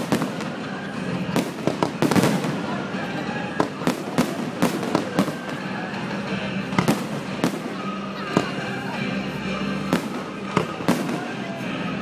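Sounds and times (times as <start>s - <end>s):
fireworks bursting with sharp bangs: 0.0s - 9.0s, 9.8s - 12.0s
music playing: 0.0s - 12.0s.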